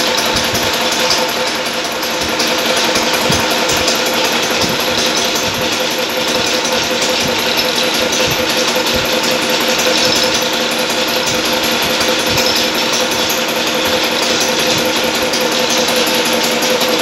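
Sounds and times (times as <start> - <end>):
fast dense rattle: 0.0 - 17.0
metalworking machine running: 0.0 - 17.0.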